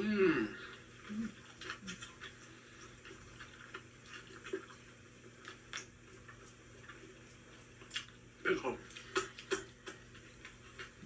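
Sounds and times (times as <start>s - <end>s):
low steady hum: 0.0s - 11.0s
person chewing wetly: 0.0s - 11.0s.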